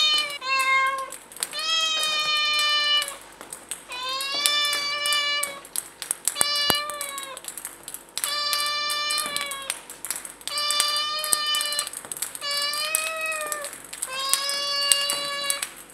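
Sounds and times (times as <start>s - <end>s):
cat meowing: 0.0s - 3.2s, 3.9s - 5.7s, 6.3s - 7.5s, 8.2s - 9.8s, 10.5s - 15.7s
table tennis balls bouncing: 0.0s - 15.9s.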